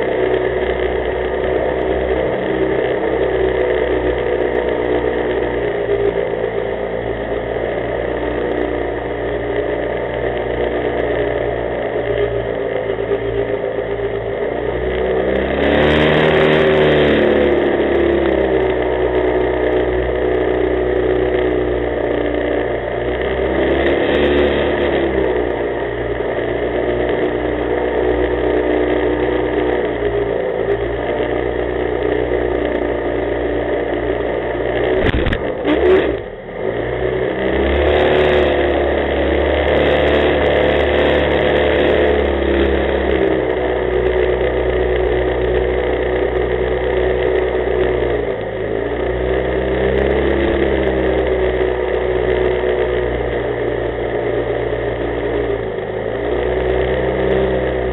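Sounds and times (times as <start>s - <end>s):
boat engine running and revving: 0.0s - 57.9s.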